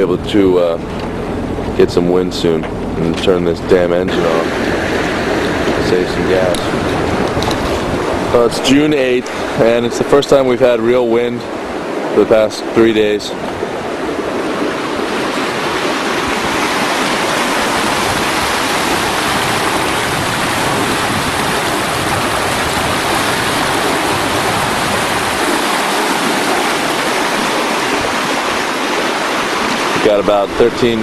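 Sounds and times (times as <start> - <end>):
wind and water rushing: 0.0 - 31.0.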